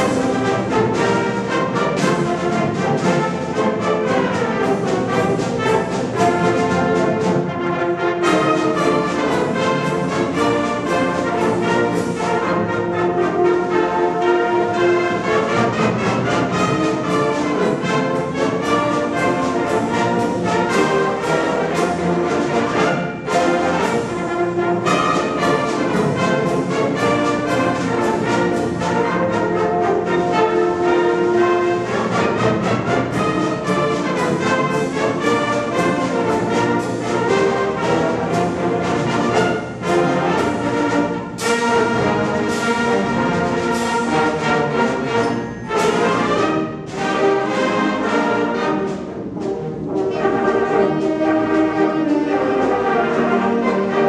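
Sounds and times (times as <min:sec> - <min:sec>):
brass band music: 0:00.0 - 0:54.0.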